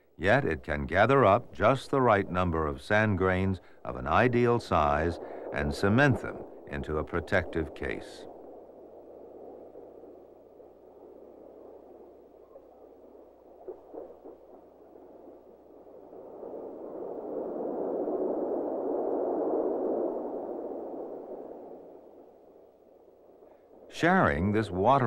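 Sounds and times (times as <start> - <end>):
muffled whooshing ambience: 0.0 - 22.0, 23.7 - 25.0.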